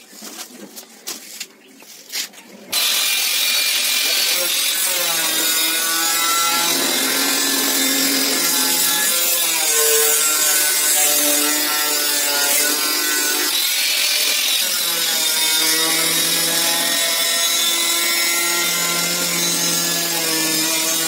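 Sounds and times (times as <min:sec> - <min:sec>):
angle grinder cutting steel: 0:02.7 - 0:21.0.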